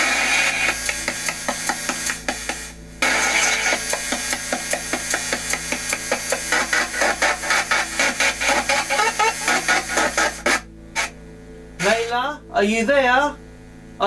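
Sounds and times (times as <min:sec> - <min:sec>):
choppy radio static bursts: 0:00.0 - 0:13.2.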